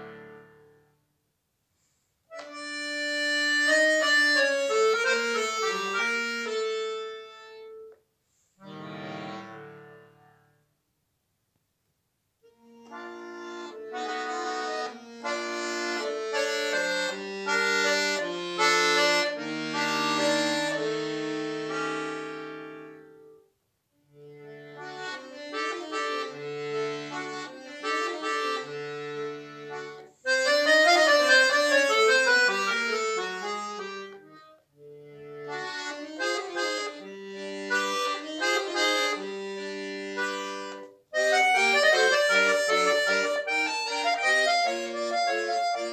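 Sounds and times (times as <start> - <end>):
solo accordion classical piece: 0.0 - 1.1, 1.8 - 10.8, 12.4 - 45.9.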